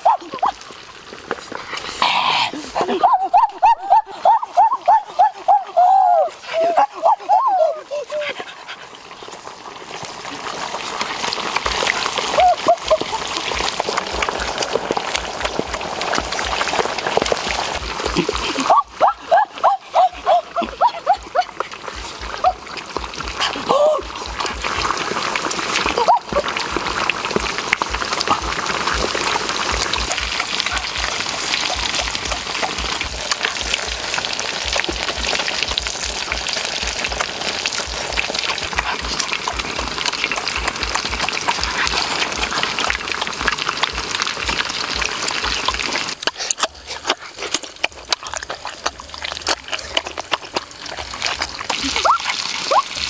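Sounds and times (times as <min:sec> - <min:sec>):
food sizzling in a pan: 0:00.0 - 0:53.0
person eating juicy fruit: 0:10.3 - 0:53.0.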